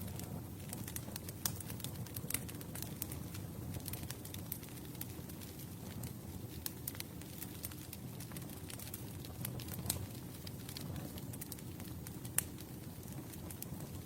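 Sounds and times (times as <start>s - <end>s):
campfire crackling: 0.0s - 14.0s
sharp pops and snaps of fire: 0.0s - 14.0s.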